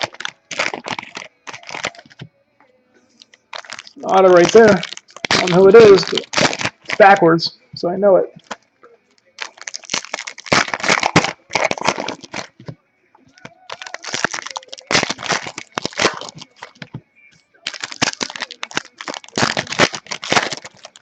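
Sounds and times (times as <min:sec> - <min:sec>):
card pack wrappers crinkling: 0:00.0 - 0:02.3, 0:03.2 - 0:07.3, 0:08.4 - 0:17.0, 0:17.6 - 0:21.0.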